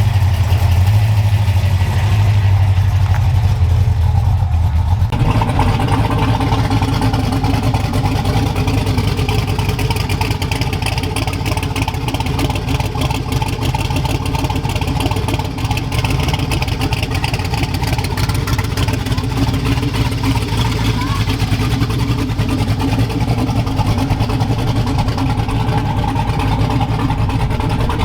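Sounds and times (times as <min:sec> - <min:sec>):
car engine running: 0:00.0 - 0:28.0.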